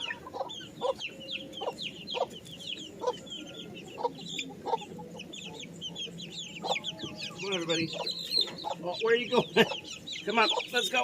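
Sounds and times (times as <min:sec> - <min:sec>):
chicks peeping: 0:00.0 - 0:11.0
hen clucking: 0:00.0 - 0:11.0.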